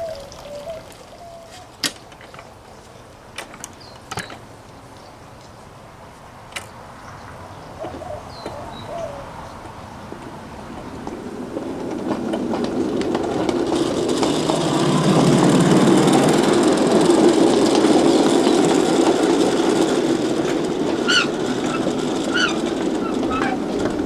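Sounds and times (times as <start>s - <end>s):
wheels clicking over rail joints: 0.0s - 5.6s, 6.4s - 24.0s
ride-on locomotive rolling: 0.0s - 24.0s.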